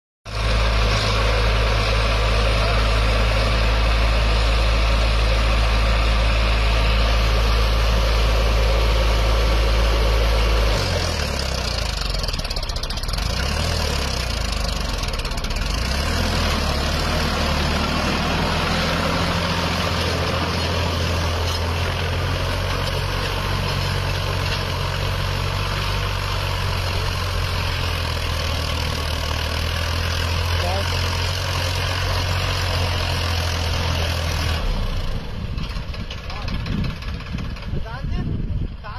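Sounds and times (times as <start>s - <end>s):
tractor engine droning: 0.3s - 38.9s.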